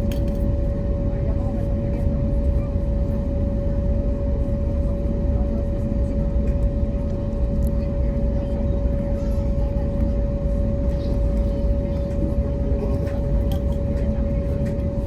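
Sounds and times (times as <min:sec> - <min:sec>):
airliner cabin rumble and hum: 0:00.0 - 0:15.0.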